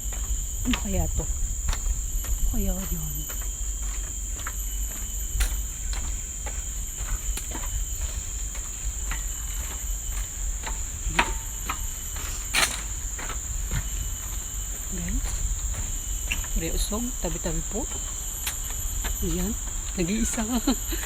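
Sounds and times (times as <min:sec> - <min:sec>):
footsteps on a trail: 0:00.0 - 0:21.0
forest insects buzzing: 0:00.0 - 0:21.0.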